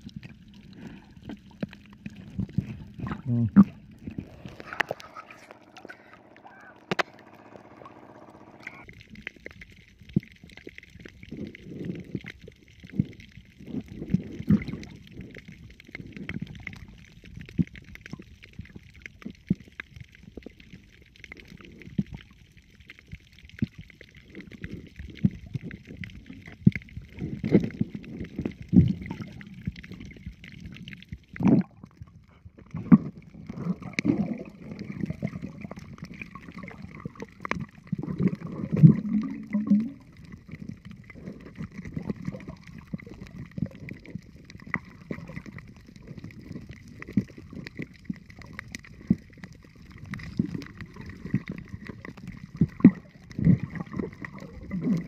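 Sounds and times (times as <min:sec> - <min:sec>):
muffled underwater water sloshing: 0:00.0 - 0:55.0.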